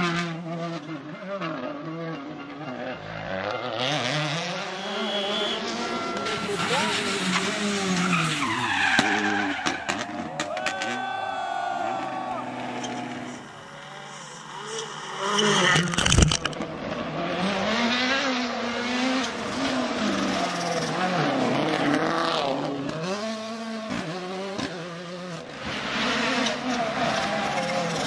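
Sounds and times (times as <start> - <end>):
rally car engine accelerating: 0.0 - 11.1, 11.7 - 28.0.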